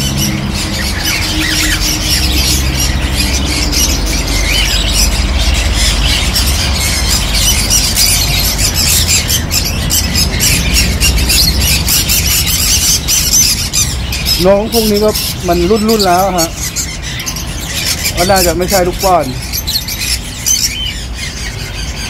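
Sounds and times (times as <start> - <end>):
parrots and finches chattering: 0.0 - 22.0.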